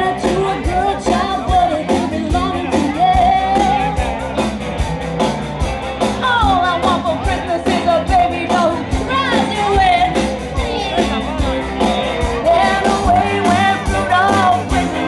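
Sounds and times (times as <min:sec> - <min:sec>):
person singing: 0:00.0 - 0:04.3, 0:06.2 - 0:11.3, 0:12.1 - 0:15.0
drum beat: 0:00.0 - 0:15.0
electric guitar: 0:00.0 - 0:15.0.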